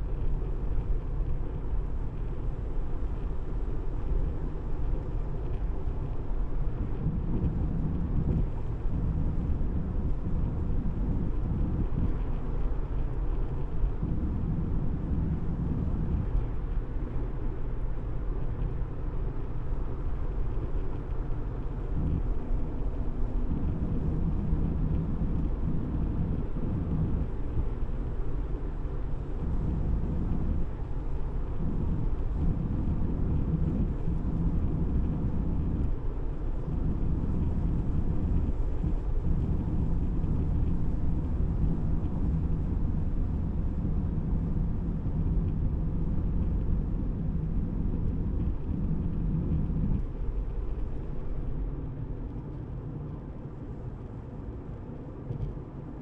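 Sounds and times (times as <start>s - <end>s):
car tyre and wind noise: 0.0s - 56.0s.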